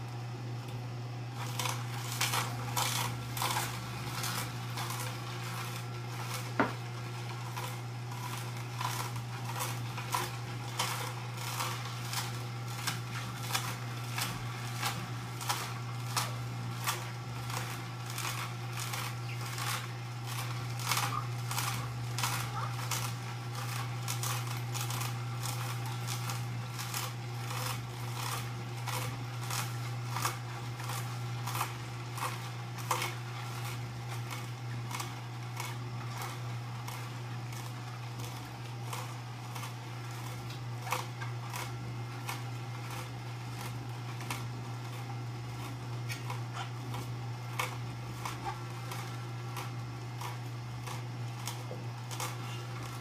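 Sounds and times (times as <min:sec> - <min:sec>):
juicer motor hum: 0:00.0 - 0:53.0
vegetables crunching: 0:01.3 - 0:53.0.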